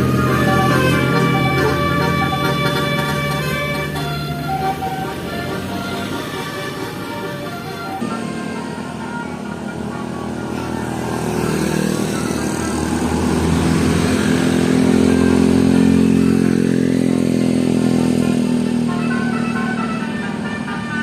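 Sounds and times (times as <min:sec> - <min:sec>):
vehicle engine passing: 0:00.0 - 0:21.0.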